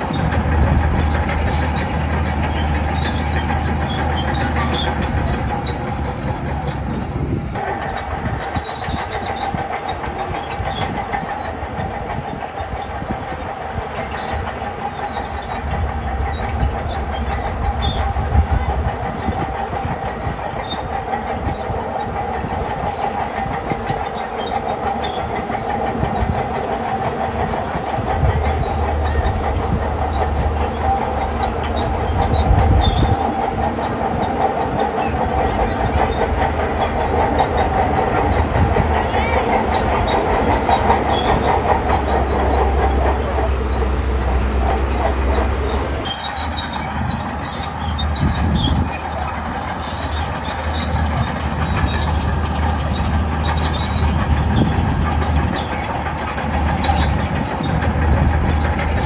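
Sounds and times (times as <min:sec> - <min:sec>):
bulldozer diesel engine: 0:00.0 - 0:59.0
steel tracks clanking: 0:00.0 - 0:59.0.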